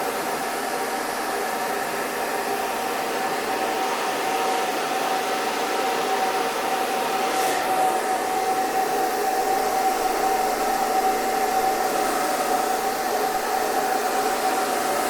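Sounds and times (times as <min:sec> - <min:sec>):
hair dryer running: 0:00.6 - 0:15.0.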